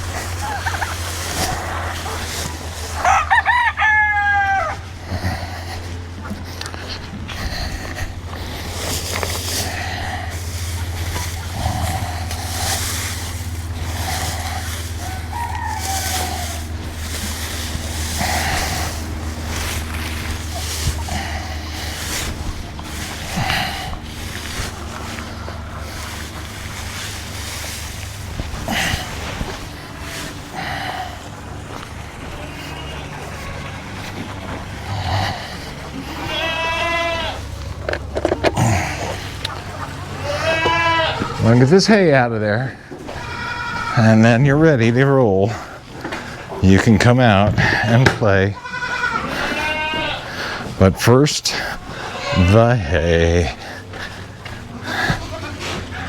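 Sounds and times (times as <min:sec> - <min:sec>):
farm animal calls: 0:00.0 - 0:56.0
goats and sheep bleating: 0:00.0 - 0:56.0
low steady rumble: 0:00.0 - 0:56.0.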